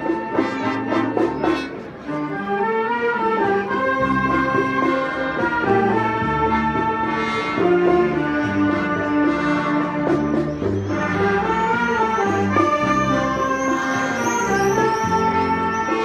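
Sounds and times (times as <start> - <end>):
wind band playing: 0.0 - 16.0.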